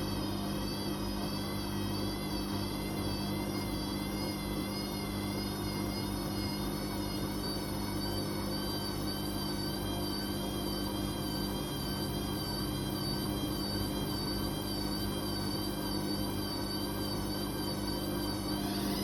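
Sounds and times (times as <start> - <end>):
high wavering whine: 0.0 - 19.0
washing machine motor hum: 0.0 - 19.0.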